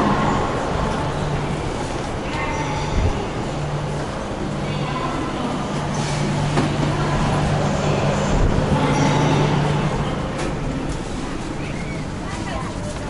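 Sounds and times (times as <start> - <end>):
train machinery humming: 0.0 - 13.0.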